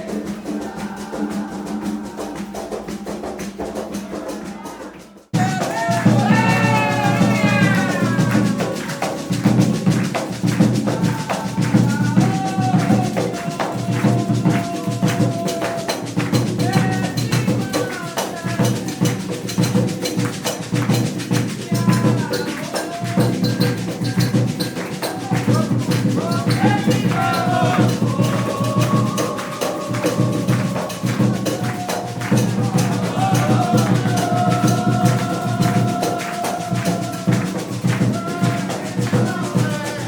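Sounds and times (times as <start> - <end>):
voices singing a chant: 0.0 - 40.0
drums: 5.3 - 40.0.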